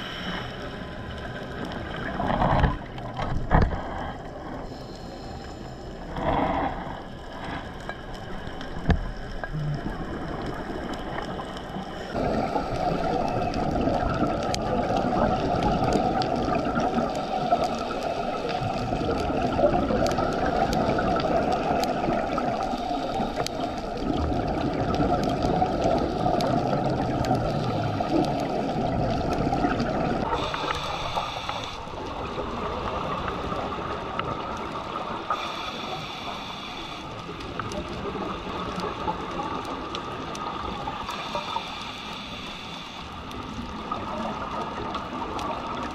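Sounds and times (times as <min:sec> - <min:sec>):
underwater rushing water and bubbles: 0:00.0 - 0:45.9.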